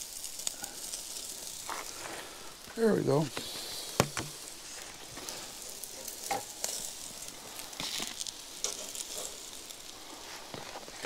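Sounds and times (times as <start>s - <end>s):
burgers sizzling on grill: 0.0s - 11.0s.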